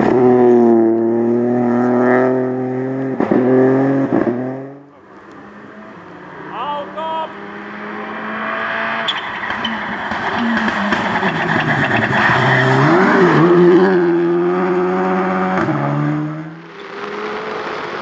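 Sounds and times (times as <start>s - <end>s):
rally car engine passing by: 0.0s - 18.0s.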